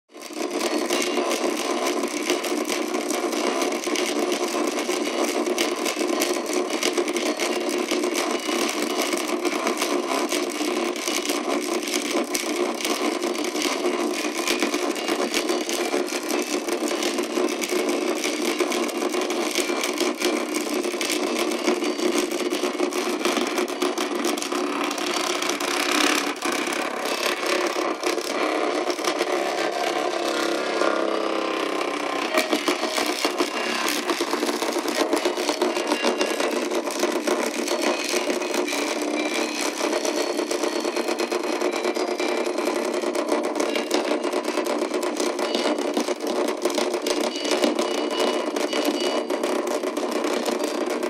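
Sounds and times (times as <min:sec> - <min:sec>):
toy motor buzzing and rattling: 0:00.1 - 0:51.0.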